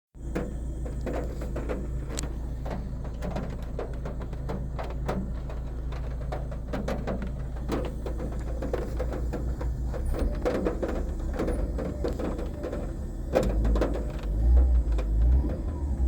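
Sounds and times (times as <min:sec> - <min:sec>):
car engine idling: 0:00.2 - 0:16.0
raindrops ticking: 0:00.2 - 0:16.0.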